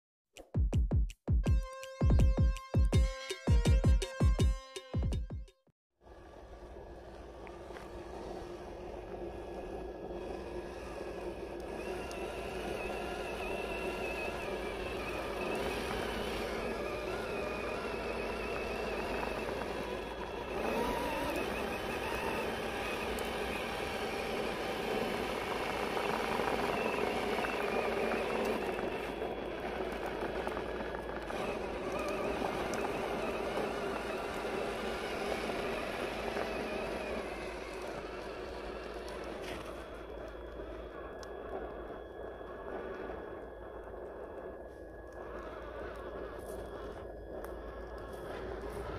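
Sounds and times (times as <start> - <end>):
electric motor whining: 6.2 - 48.9.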